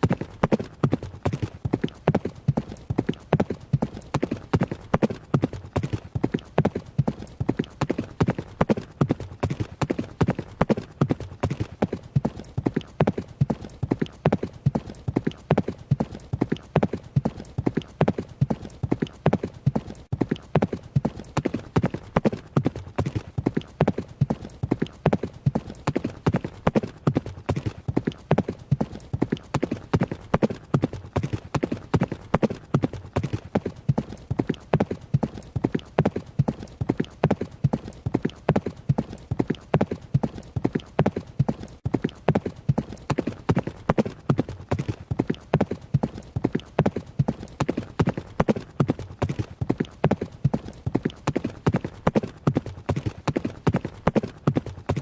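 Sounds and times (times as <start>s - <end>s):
horse hooves galloping: 0.0s - 55.0s.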